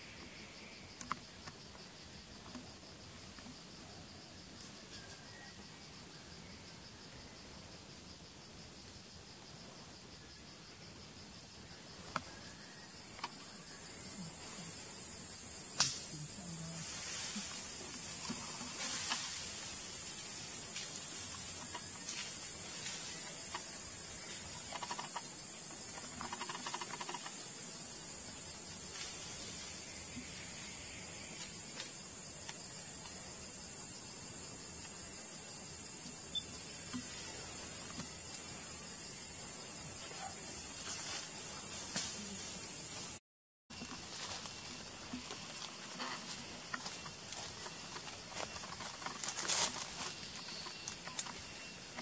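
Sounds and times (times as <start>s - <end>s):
cicadas droning: 0.0s - 52.0s.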